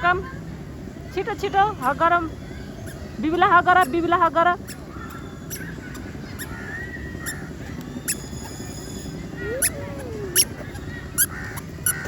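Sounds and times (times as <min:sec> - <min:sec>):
background hubbub: 0:00.0 - 0:12.0
birds calling: 0:01.5 - 0:12.0.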